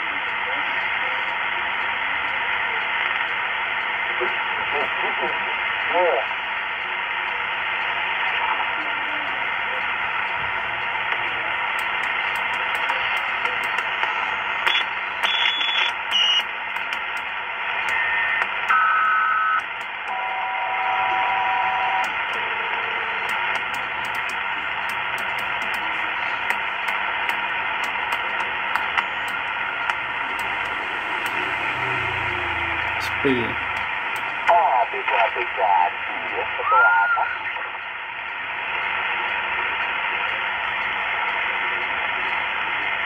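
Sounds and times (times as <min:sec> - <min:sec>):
held radio tones: 0:00.0 - 0:42.7
radio static hiss: 0:00.0 - 0:43.0.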